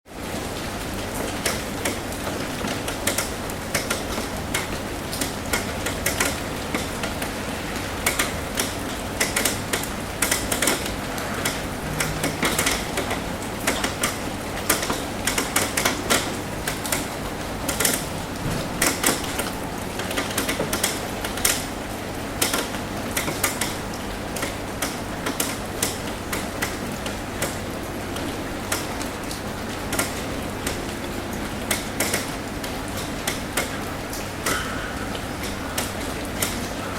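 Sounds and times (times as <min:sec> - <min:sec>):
rain drumming on metal roof: 0:00.1 - 0:36.9.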